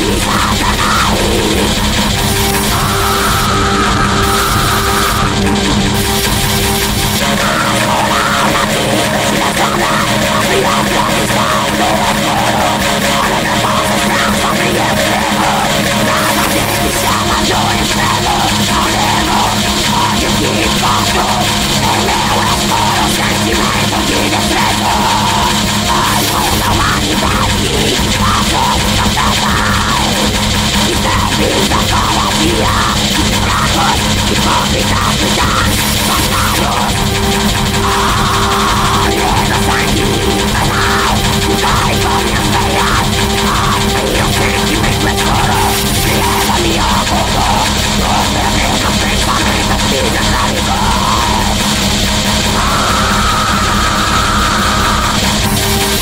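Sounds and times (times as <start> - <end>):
distorted guitars: 0.0 - 56.0
drums playing: 0.0 - 56.0.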